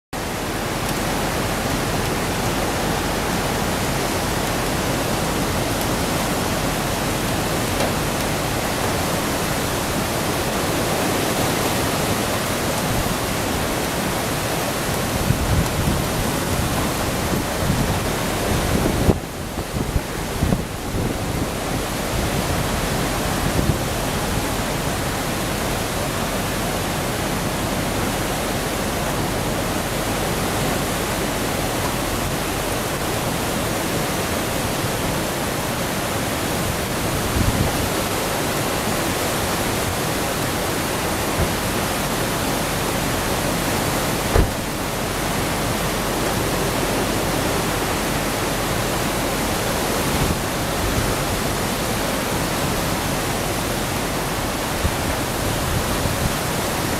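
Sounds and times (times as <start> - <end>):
flooded river rushing: 0.2 - 56.9.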